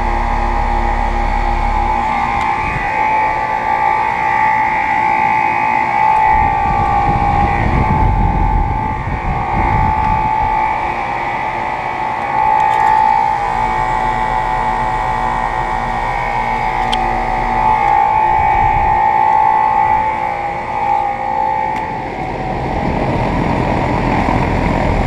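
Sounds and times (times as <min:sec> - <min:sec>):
low rumble: 0:00.0 - 0:04.3, 0:06.0 - 0:11.3, 0:12.3 - 0:25.0
air conditioner hum and whine: 0:00.0 - 0:25.0
condenser fan rushing: 0:00.0 - 0:25.0.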